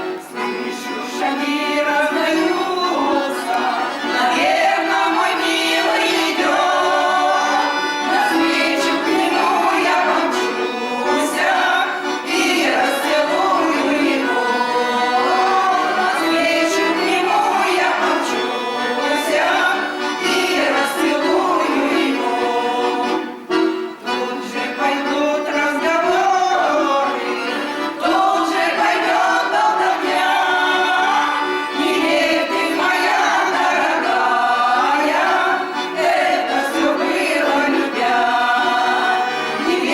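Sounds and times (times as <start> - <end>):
accordion: 0.0 - 39.9
group of voices singing: 0.0 - 39.9.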